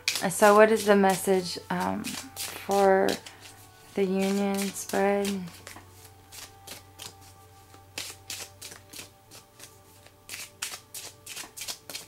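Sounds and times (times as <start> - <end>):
cards shuffling: 0.0 - 12.0
quiet background music: 0.0 - 12.0.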